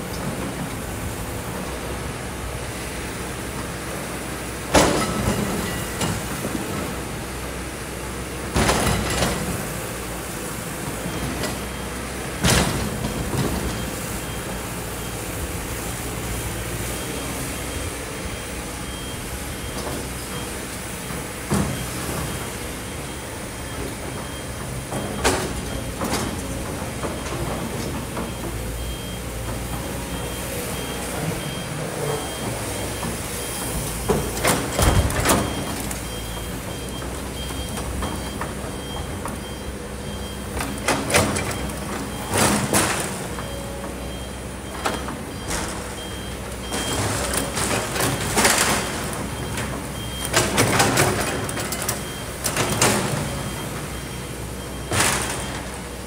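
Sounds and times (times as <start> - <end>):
excavator diesel engine running: 0.0 - 56.0
reversing alarm beeping: 10.5 - 56.0.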